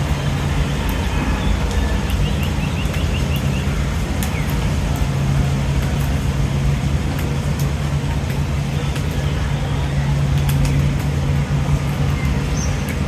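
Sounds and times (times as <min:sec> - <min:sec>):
low hum and rumble: 0:00.0 - 0:13.0.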